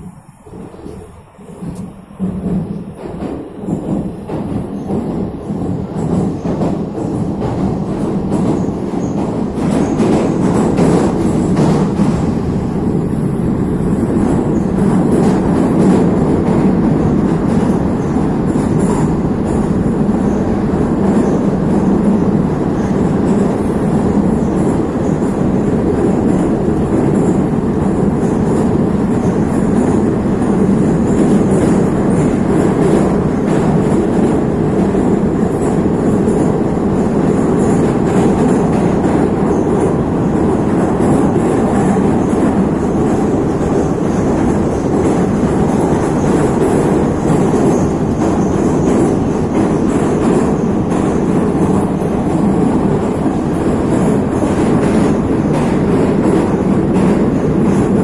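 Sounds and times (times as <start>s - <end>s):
metro train rumbling in tunnel: 0.0s - 58.0s.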